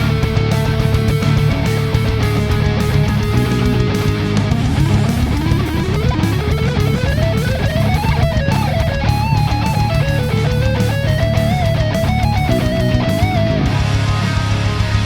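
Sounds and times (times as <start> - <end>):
heavy metal electric guitar: 0.0 - 15.0.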